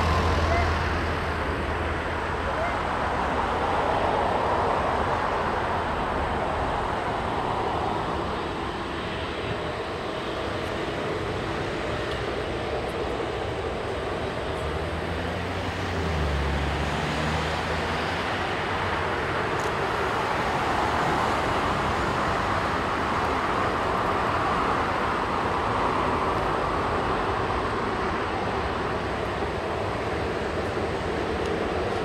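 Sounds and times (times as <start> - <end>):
jet engines at takeoff thrust: 0.0 - 32.0.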